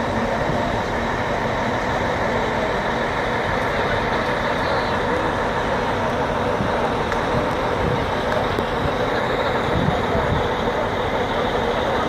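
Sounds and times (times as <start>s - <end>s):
bus diesel engines idling: 0.0s - 12.0s.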